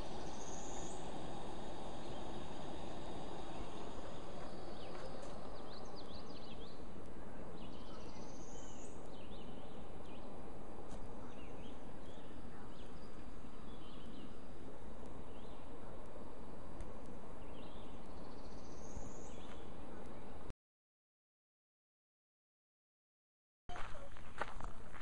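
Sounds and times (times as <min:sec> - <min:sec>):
birds chirping: 0:00.0 - 0:20.5
steady rushing background noise: 0:00.0 - 0:20.5.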